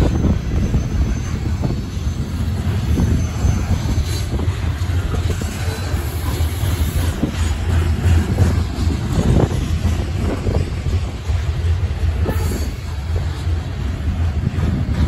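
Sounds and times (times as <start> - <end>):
freight train wheels rumbling: 0.0 - 15.0
train clicking and clatter: 0.0 - 15.0.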